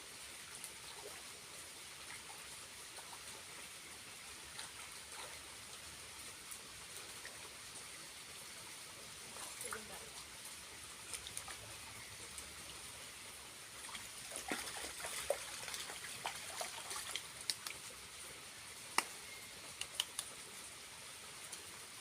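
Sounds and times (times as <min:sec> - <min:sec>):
small waterfall trickling: 0:00.0 - 0:22.0
sharp ticks and drips: 0:00.1 - 0:22.0.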